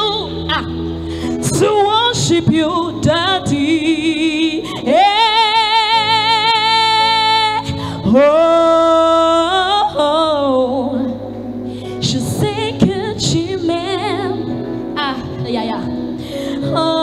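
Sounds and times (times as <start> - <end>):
woman singing wordless gospel: 0.0 - 17.0.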